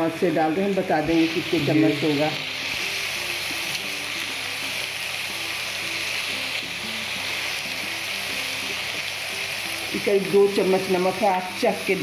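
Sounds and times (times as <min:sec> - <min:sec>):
background music: 0:00.0 - 0:12.0
meat sizzling in oil: 0:00.0 - 0:12.0.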